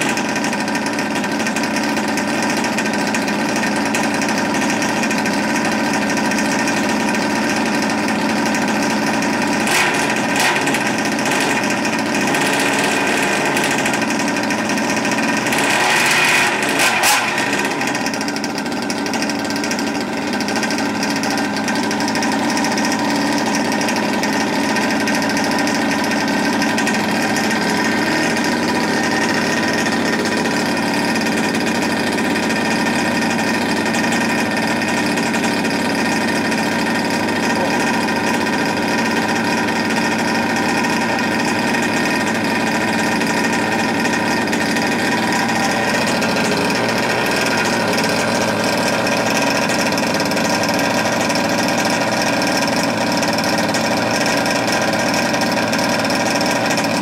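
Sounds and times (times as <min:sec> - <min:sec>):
two-stroke engine idling: 0:00.0 - 0:57.0.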